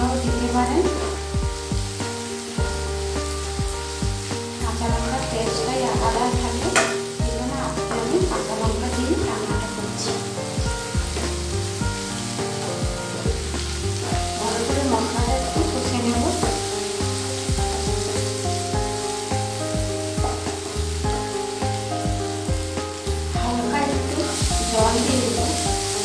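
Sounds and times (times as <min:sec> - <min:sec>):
background music with steady beat: 0:00.0 - 0:26.0
onions sizzling in oil: 0:00.0 - 0:26.0.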